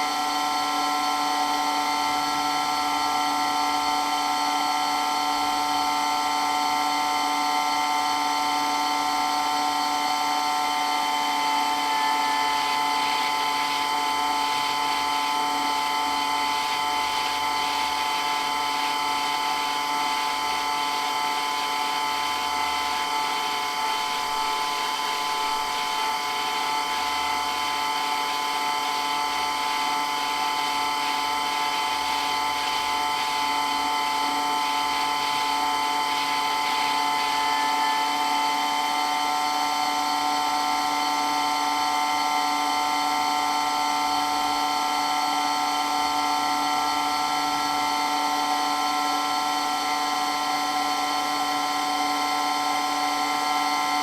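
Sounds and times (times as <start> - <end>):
water pump whining: 0.1 - 54.0.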